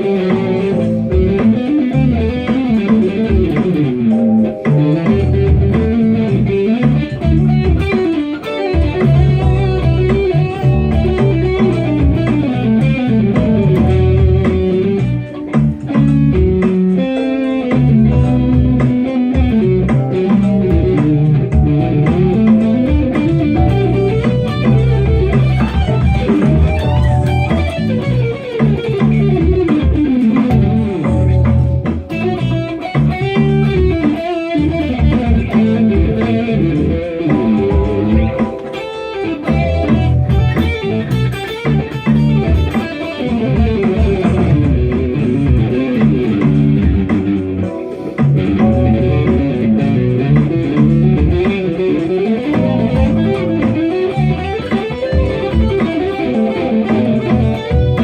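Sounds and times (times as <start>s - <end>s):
instrumental pop music with guitar: 0.0s - 58.0s.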